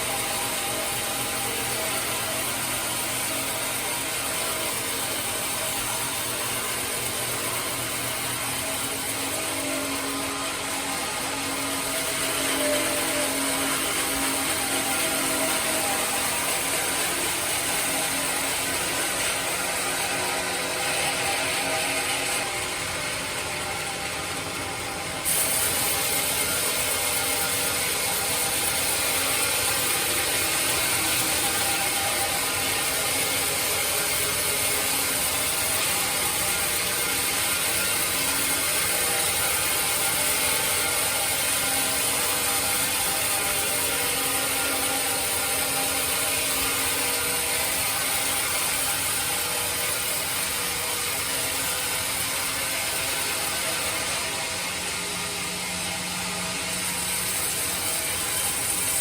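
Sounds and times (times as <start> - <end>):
band sawmill running: 0.0 - 59.0.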